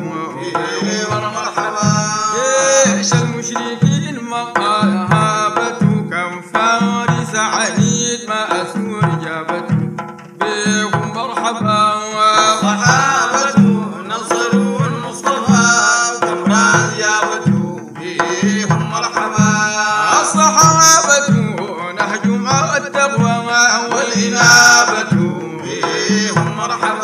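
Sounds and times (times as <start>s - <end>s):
frame drums beating: 0.0s - 27.0s
men singing: 0.0s - 27.0s.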